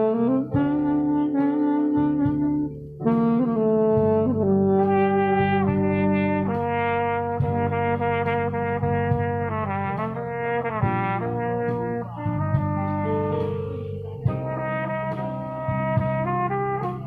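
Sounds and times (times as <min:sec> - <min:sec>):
backing accompaniment: 0:00.0 - 0:17.0
trumpet playing slow melody: 0:00.0 - 0:17.0.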